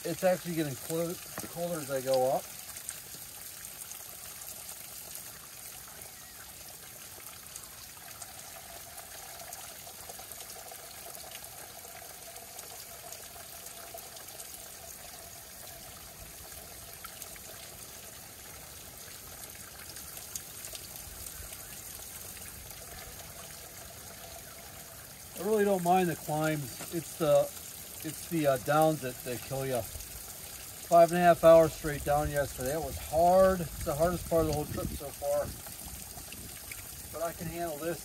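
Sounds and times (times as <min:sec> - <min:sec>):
water trickling into plastic bottle: 0:00.0 - 0:38.0.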